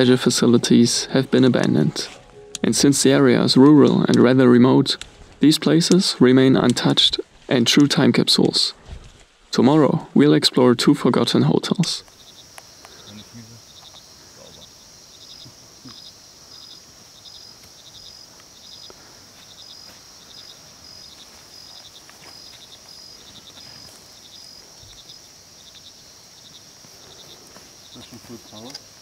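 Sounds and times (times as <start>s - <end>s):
crickets trilling: 0.0s - 8.7s, 9.5s - 29.0s
insect chirping in pulses: 0.0s - 8.7s, 9.6s - 29.0s.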